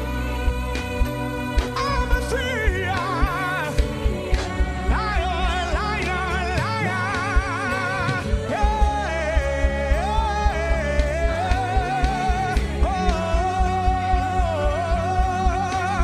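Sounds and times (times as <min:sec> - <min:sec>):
gospel band playing: 0:00.0 - 0:16.0.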